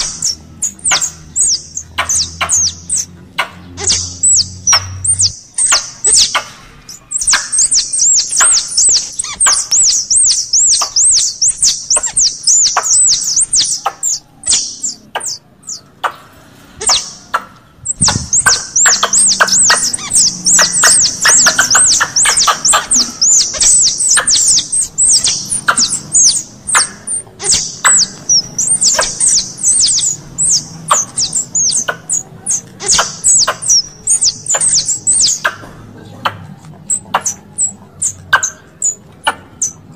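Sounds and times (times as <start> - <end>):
squirrel chirping chatter: 0.0 - 16.2, 16.8 - 39.9.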